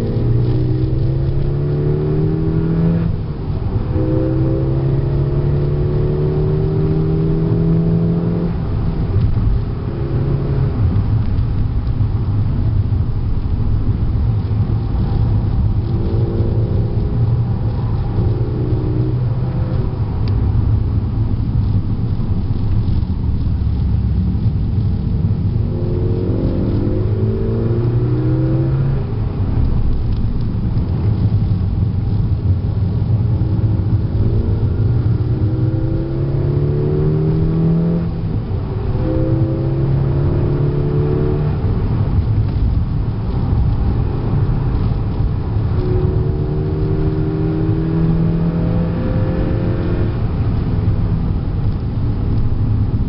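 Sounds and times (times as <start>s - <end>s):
car engine accelerating: 0.0s - 53.0s
road noise: 0.0s - 53.0s.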